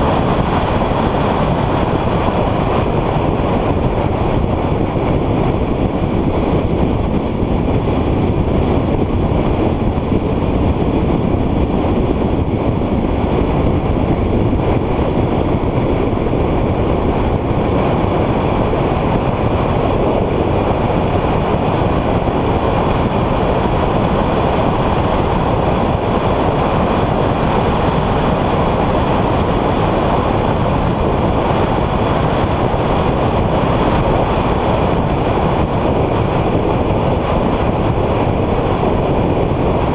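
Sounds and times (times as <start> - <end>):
car driving at speed: 0.0 - 39.9.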